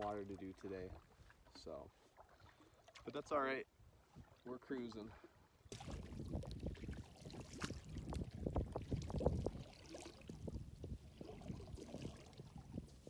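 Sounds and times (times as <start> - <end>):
water splashing from paddling: 0.0 - 3.2, 4.0 - 13.0.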